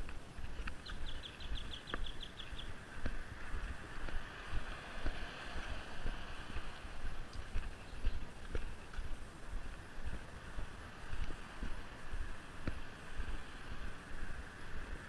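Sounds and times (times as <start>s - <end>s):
road traffic passing: 0.0s - 15.0s
wind buffeting microphone: 0.0s - 15.0s.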